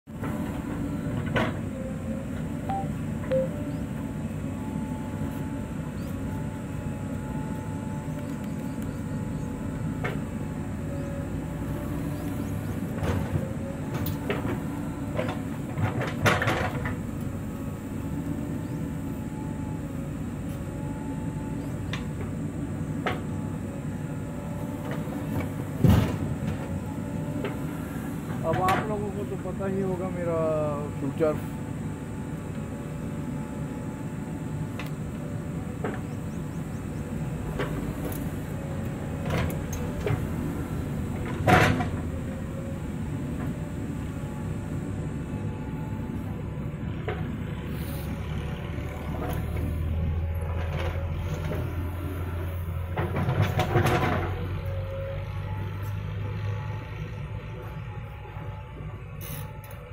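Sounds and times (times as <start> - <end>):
diesel engine under load: 0.1 - 59.9.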